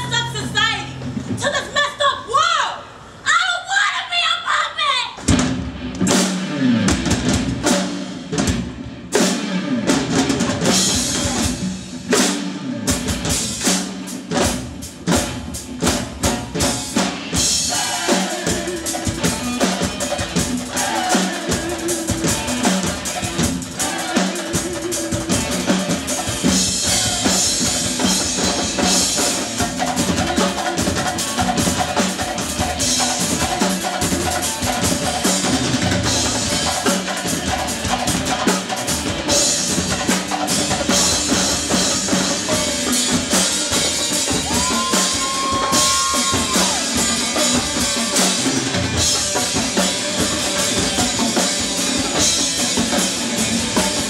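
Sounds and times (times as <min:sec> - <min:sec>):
marching drumline playing: 0:05.2 - 0:54.0.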